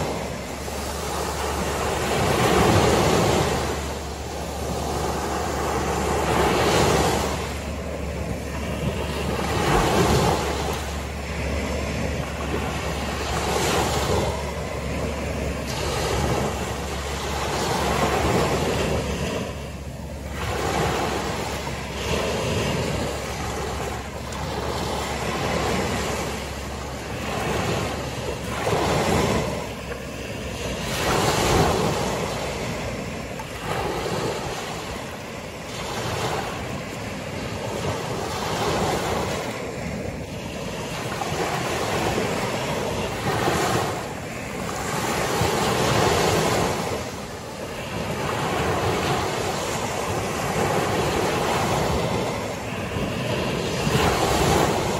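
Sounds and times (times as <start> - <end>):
small waves breaking on beach: 0.0 - 54.9.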